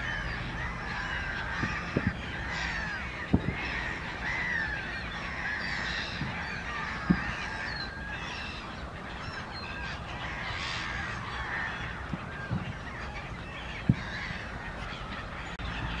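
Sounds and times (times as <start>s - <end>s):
birds chirping in chorus: 0.0s - 16.0s
steady low rumble: 0.0s - 16.0s.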